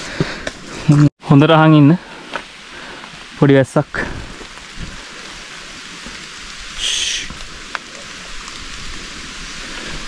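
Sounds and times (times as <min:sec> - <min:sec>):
light rain on forest canopy: 0:00.0 - 0:10.0.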